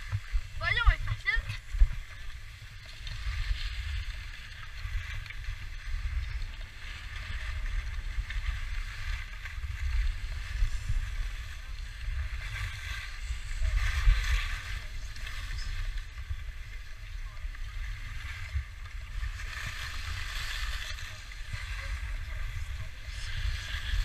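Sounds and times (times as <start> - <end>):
wind rumbling on microphone: 0.0 - 24.0
skis scraping over packed snow: 4.4 - 24.0.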